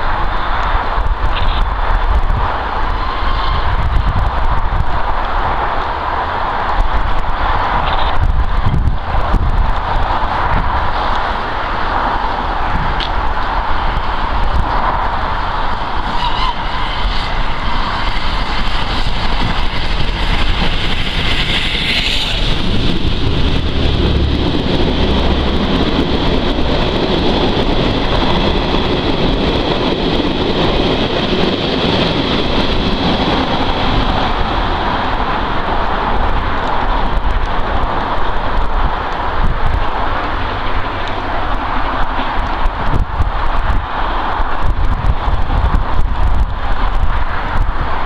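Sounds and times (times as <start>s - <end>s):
carriages rumbling on rails: 0.0s - 48.0s
steam locomotive working hard: 0.0s - 48.0s.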